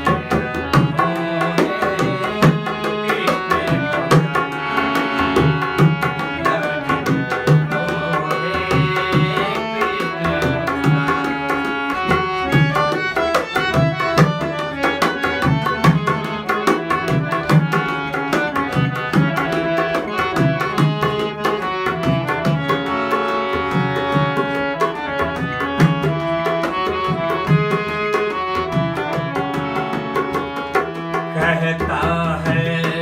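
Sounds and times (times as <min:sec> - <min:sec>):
sustained melody notes: 0:00.0 - 0:32.3
tabla rhythm: 0:00.0 - 0:33.0.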